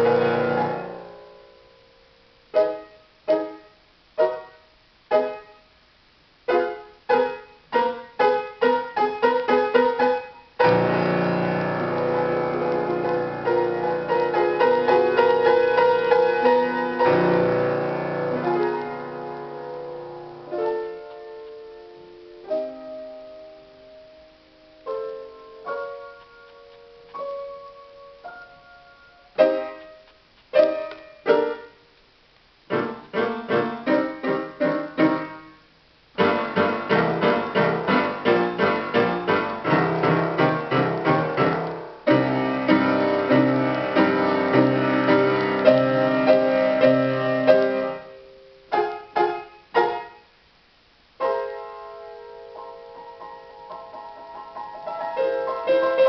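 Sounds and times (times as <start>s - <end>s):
solo piano playing: 0.0s - 5.8s, 6.5s - 31.9s, 32.7s - 50.3s, 51.2s - 56.0s.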